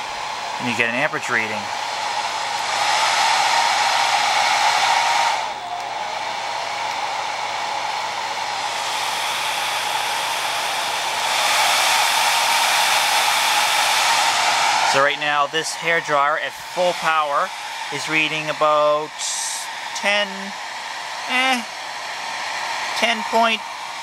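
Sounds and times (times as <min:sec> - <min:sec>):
hairdryer running: 0:00.0 - 0:24.0.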